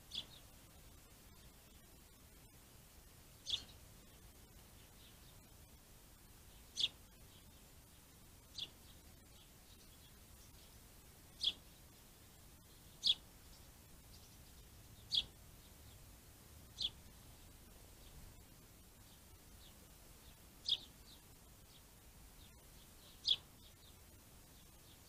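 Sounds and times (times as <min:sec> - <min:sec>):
faint outdoor hiss: 0:00.0 - 0:25.0.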